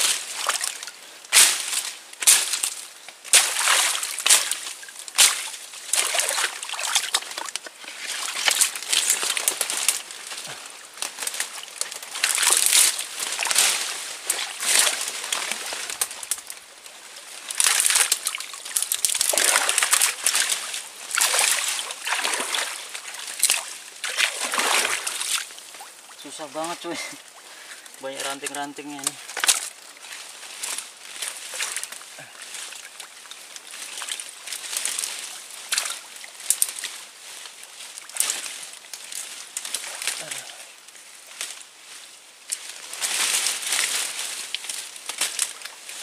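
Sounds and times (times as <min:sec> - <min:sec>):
water sloshing as person wades: 0:00.0 - 0:28.6, 0:29.2 - 0:40.2.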